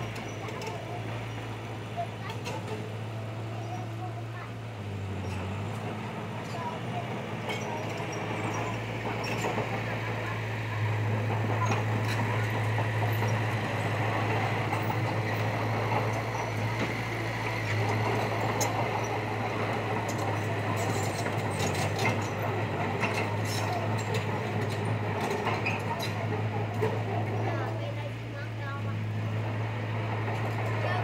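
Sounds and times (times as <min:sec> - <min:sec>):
diesel engine humming: 0:00.0 - 0:31.0.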